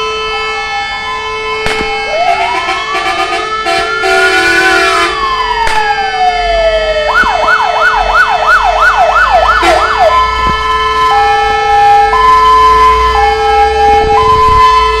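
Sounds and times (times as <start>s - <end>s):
fire engine siren: 0.0s - 15.0s.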